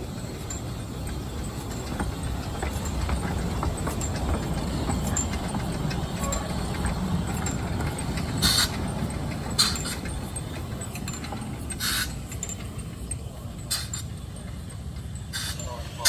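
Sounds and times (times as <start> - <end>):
locomotive low rumble: 0.0 - 16.0.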